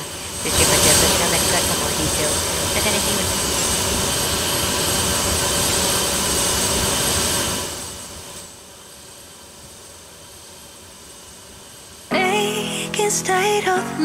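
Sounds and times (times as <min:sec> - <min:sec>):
jet engine and airflow noise: 0:00.0 - 0:12.2.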